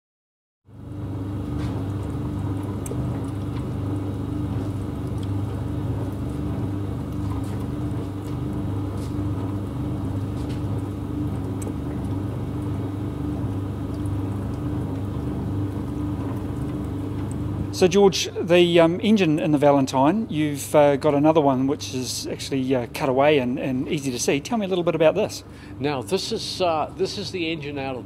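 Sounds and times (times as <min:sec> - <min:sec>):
low mechanical hum: 0:00.7 - 0:28.0.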